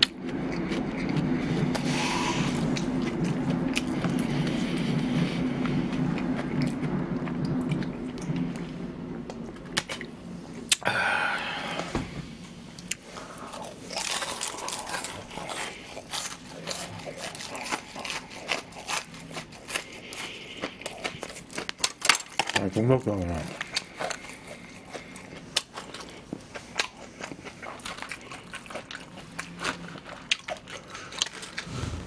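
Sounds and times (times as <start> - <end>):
crunching and chewing fried cutlet: 0.0 - 10.8, 12.8 - 32.0.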